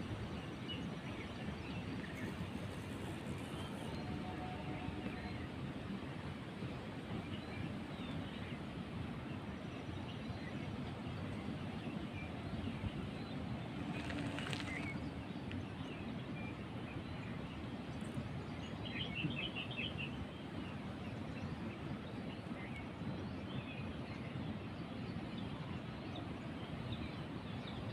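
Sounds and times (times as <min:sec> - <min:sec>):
outdoor background noise: 0:00.0 - 0:27.9.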